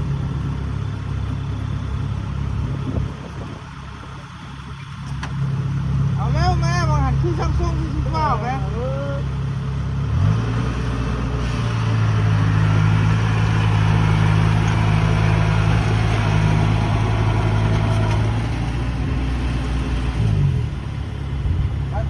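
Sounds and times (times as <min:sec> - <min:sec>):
motor engine running steadily: 0:00.0 - 0:22.0.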